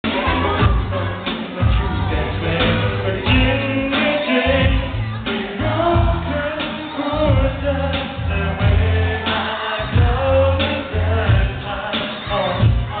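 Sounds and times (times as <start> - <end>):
man singing: 0.0 - 13.0
pulsing bass beat: 0.0 - 13.0.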